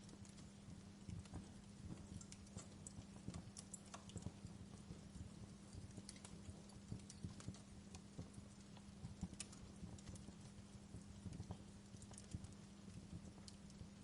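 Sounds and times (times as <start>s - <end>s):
campfire crackling: 0.0s - 14.0s
faint low hum: 0.0s - 14.0s.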